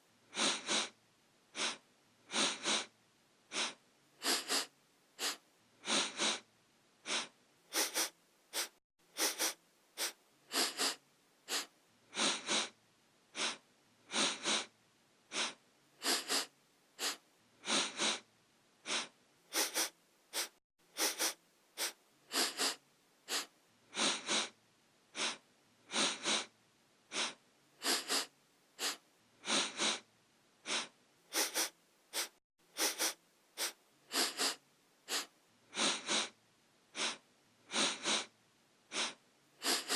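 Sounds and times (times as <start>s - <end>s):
person sniffing: 0.3s - 2.9s, 3.5s - 14.7s, 15.3s - 26.5s, 27.1s - 39.9s.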